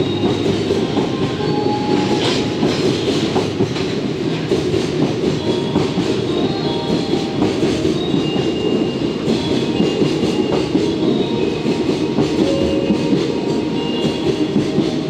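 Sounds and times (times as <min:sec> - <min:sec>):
freight train wheels clacking: 0:00.0 - 0:15.0.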